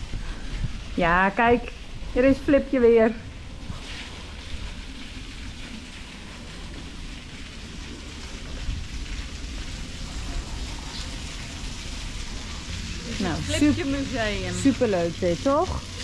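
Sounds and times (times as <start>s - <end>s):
wind rumbling on microphone: 0.0s - 7.0s, 7.9s - 16.0s
steady outdoor hiss: 0.0s - 16.0s.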